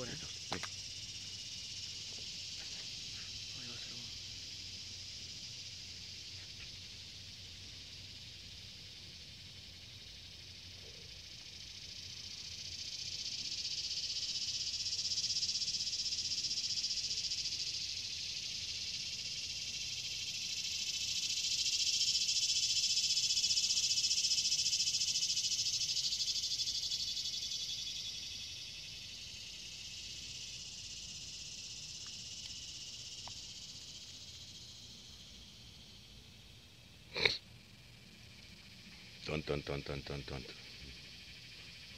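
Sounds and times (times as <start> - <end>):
insect chorus buzzing: 0.0 - 41.9.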